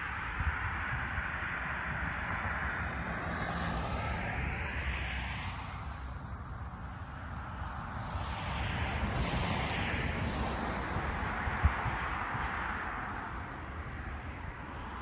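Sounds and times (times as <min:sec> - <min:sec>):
cars passing on road: 0:00.0 - 0:15.0.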